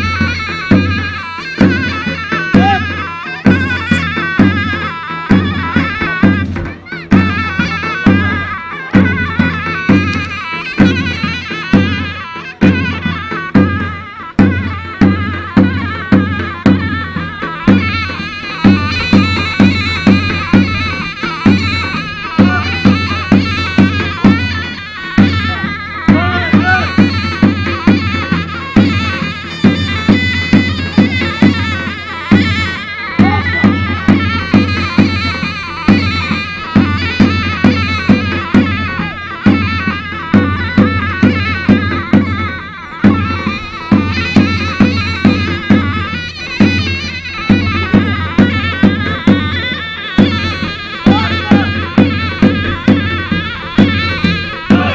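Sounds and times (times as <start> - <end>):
drum beating steady rhythm: 0.0 - 54.9
reedy wind instrument melody: 0.0 - 54.9.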